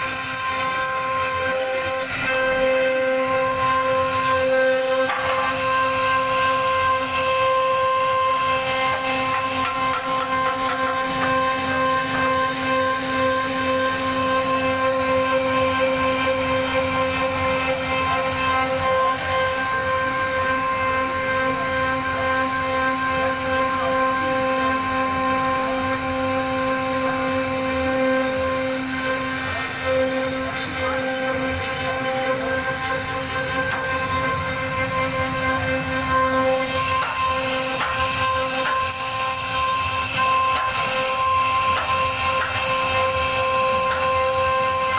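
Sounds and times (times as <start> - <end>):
router spindle whine: 0.0 - 44.9
bit cutting wood: 0.1 - 44.9.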